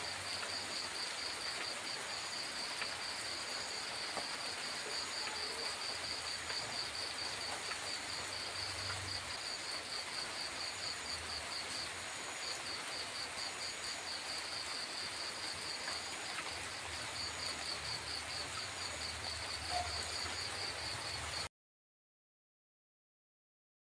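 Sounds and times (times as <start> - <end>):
steady rain falling: 0.0 - 21.5.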